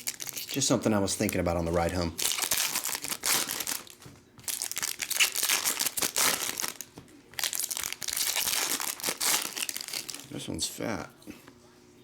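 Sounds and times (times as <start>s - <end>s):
card pack wrappers crinkling: 0.0s - 10.4s.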